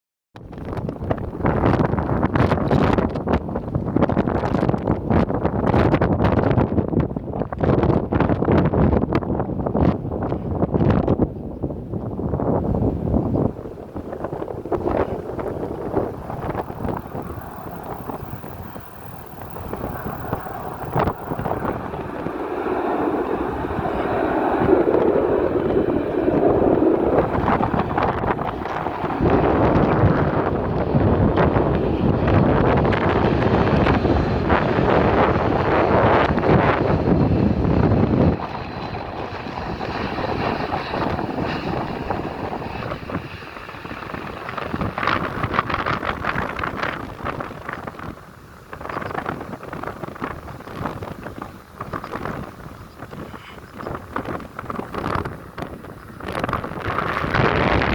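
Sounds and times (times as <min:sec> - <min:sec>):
jet engine rumble: 0:00.4 - 0:57.9
wind buffeting microphone: 0:00.4 - 0:57.9.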